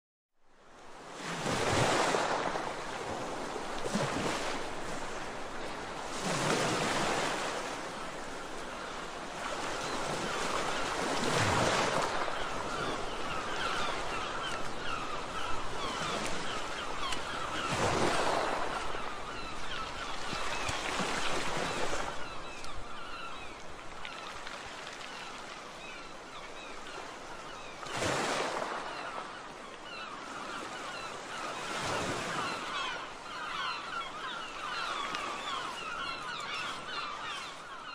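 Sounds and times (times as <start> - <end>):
waves washing on shore: 0.8 - 37.8.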